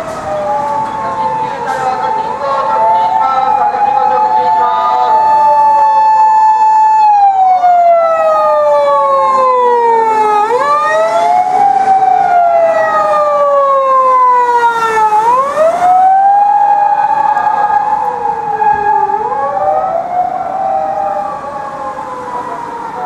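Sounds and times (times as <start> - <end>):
police sirens wailing: 0.0 - 23.0.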